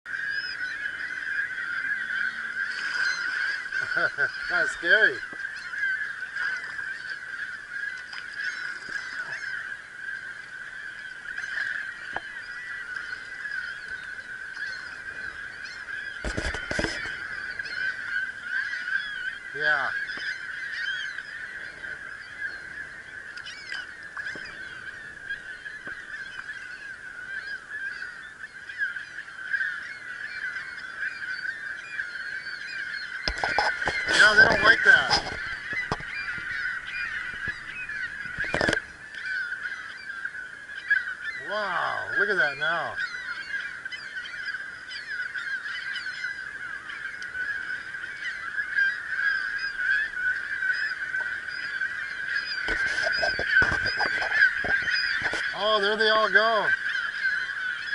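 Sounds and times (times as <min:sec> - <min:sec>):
gulls and terns squawking: 0:00.1 - 0:57.9
high thin bird calls: 0:00.1 - 0:57.9.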